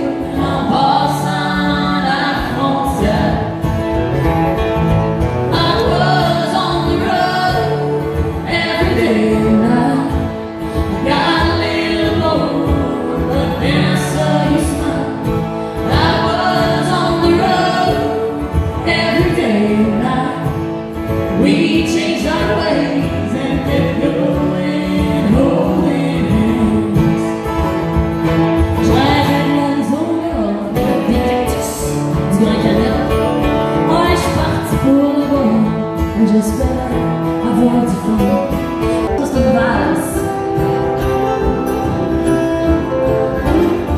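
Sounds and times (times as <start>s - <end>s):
woman singing: 0.0s - 3.9s, 5.5s - 27.6s, 28.7s - 42.4s
acoustic guitars playing: 0.0s - 43.9s.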